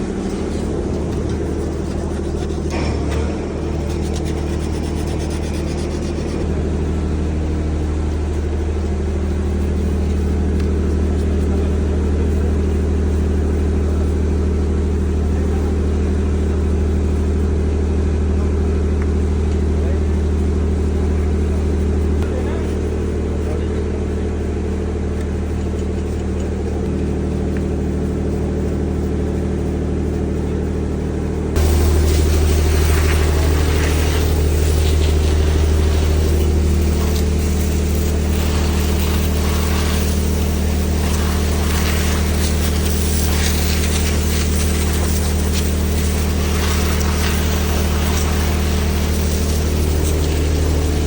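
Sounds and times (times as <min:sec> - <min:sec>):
diesel generator engine droning: 0:00.0 - 0:51.0.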